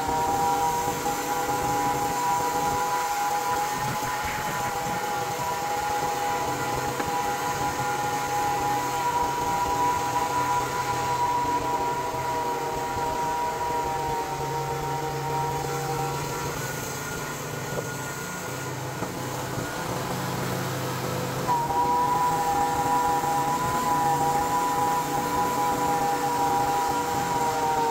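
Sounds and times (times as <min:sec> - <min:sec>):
bandsaw sawmill whine: 0:00.0 - 0:27.9.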